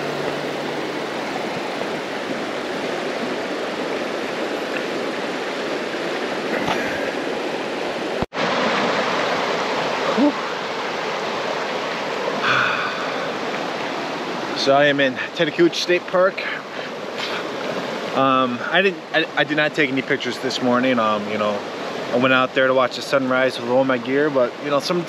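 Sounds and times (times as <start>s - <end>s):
rushing water: 0.0s - 25.0s.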